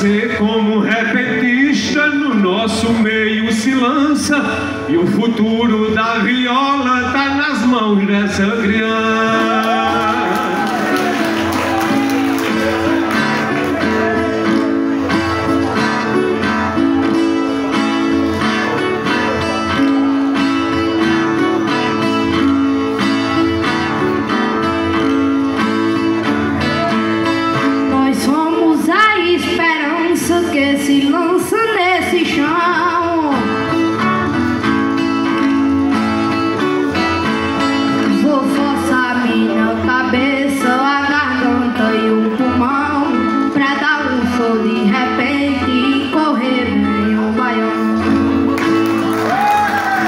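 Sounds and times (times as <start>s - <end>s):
person singing: 0.0s - 34.3s, 35.7s - 48.8s
plucked and strummed guitars: 0.0s - 50.0s.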